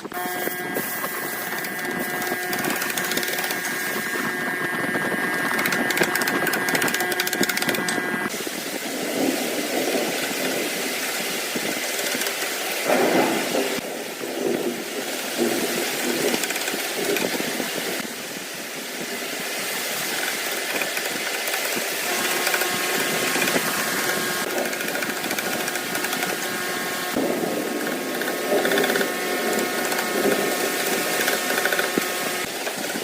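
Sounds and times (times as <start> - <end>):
electric power tool on wood: 0.0 - 8.6, 10.0 - 13.8, 15.6 - 18.1, 19.7 - 33.0.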